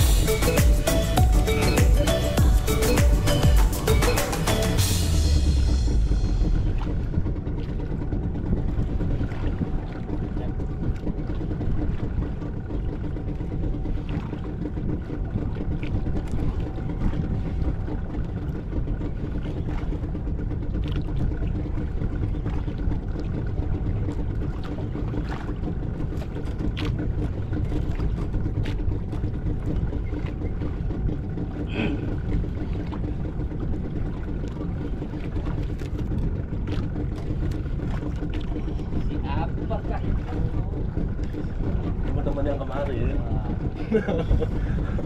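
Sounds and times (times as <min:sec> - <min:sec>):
boat engine idling: 0:00.0 - 0:45.0
water noise: 0:00.0 - 0:45.0
wind: 0:00.0 - 0:45.0.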